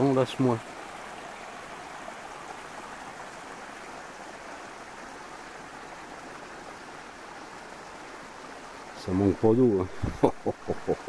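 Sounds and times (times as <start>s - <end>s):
small stream running: 0.0s - 11.0s.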